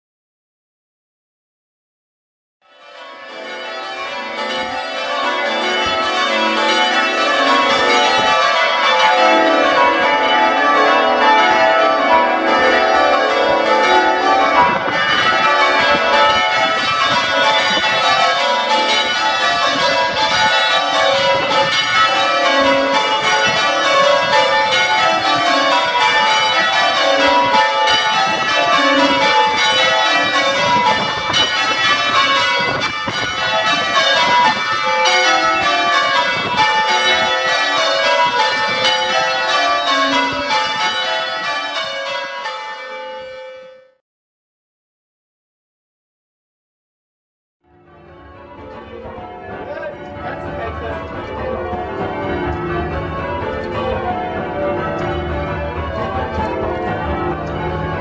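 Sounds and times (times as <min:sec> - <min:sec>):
church bells ringing: 0:02.6 - 0:44.0, 0:47.7 - 0:58.0.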